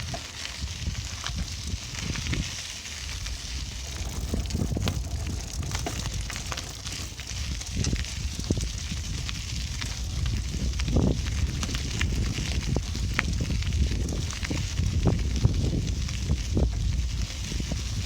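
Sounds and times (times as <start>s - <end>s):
bicycle rattling clicks: 0.0s - 18.0s
wind buffeting microphone: 0.0s - 18.0s.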